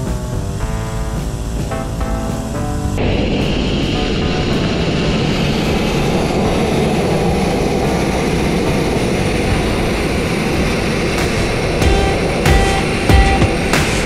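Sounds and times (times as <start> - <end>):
sandblasting hiss: 2.3 - 14.0.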